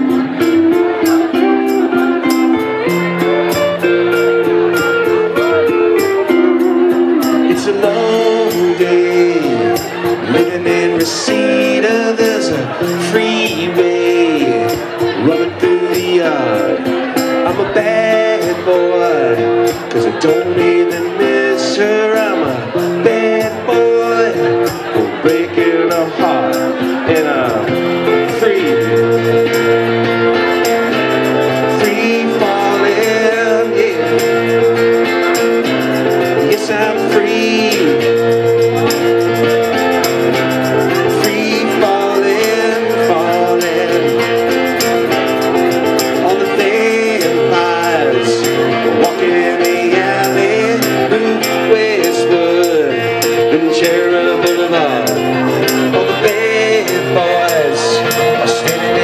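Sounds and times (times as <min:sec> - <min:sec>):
electric guitar: 0:00.0 - 0:59.0
tambourine shaken and struck: 0:00.0 - 0:59.0.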